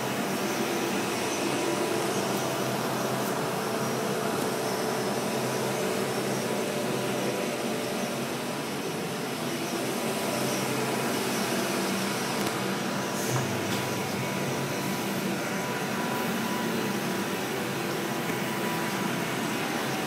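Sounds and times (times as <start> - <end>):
ventilation hiss: 0.0 - 20.0.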